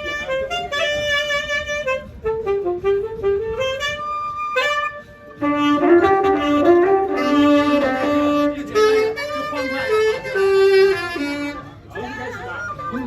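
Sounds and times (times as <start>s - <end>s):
band playing held notes: 0.0s - 13.0s
wind instrument slow melody: 0.0s - 13.0s.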